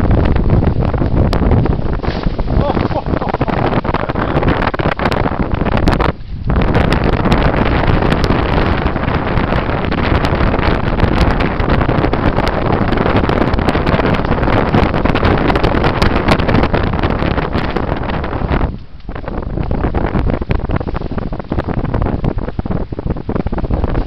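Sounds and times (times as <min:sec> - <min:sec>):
water rushing past hull: 0:00.0 - 0:24.0
wind buffeting microphone: 0:00.0 - 0:24.0.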